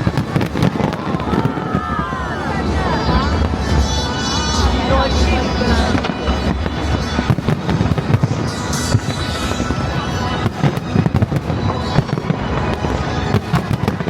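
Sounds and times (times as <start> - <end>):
fireworks bursts and bangs: 0.0 - 14.0
fireworks crackling: 0.0 - 14.0.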